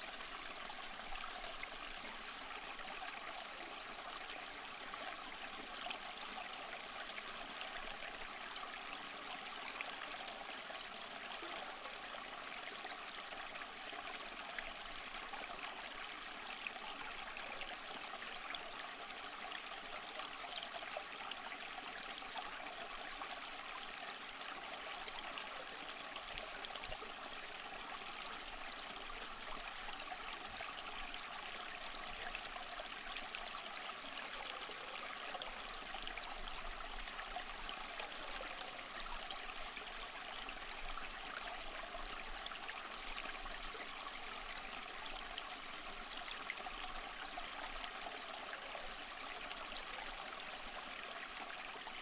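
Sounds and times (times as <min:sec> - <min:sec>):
stream water running and trickling: 0:00.0 - 0:52.0.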